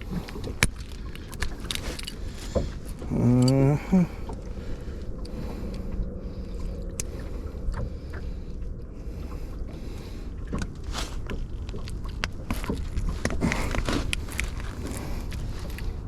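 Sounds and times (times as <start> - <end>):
boat low rumble: 0.0 - 16.0.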